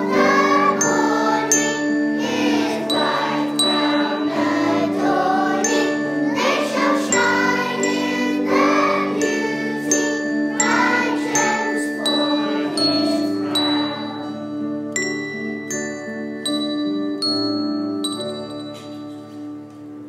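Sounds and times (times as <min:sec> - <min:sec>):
handbell ensemble playing: 0:00.0 - 0:20.0.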